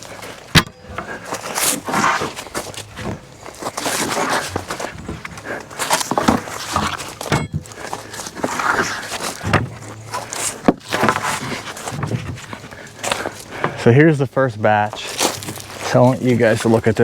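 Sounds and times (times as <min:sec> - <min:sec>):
wooden boards knocking and scraping: 0:00.0 - 0:13.8
footsteps: 0:00.0 - 0:17.0.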